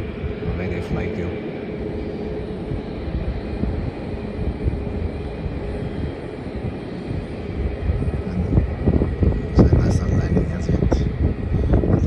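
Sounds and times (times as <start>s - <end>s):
faint steady whine: 0.0s - 12.0s
jet engines rumbling: 0.0s - 12.0s.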